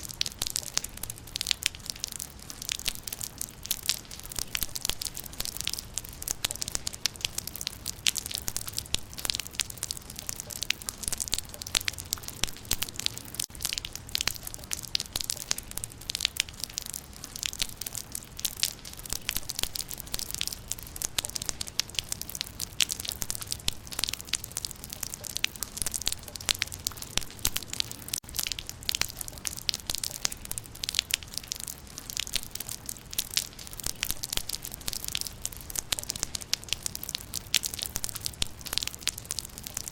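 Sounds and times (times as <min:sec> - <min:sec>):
rain pattering on leaves: 0:00.0 - 0:39.9
steady rain hiss: 0:00.0 - 0:39.9.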